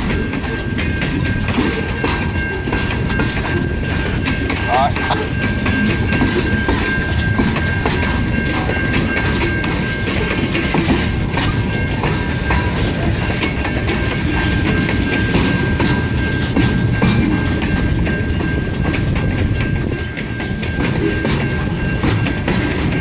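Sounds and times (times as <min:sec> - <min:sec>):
train rumble: 0:00.0 - 0:23.0
train wheels clacking on rails: 0:00.0 - 0:23.0.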